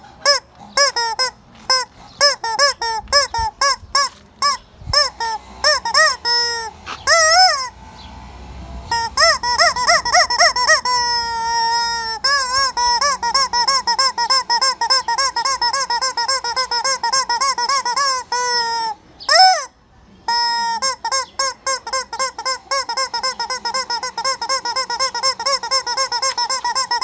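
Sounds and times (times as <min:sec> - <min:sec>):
rubber chicken toy squeaking: 0:00.0 - 0:07.7, 0:08.9 - 0:27.0.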